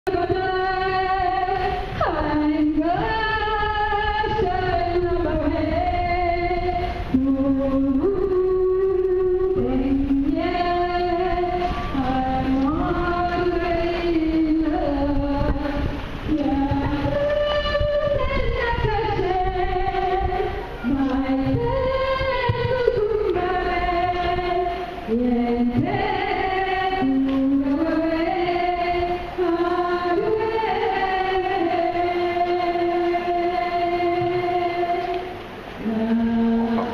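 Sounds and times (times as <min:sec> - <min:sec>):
voices singing held notes: 0:00.1 - 0:36.9.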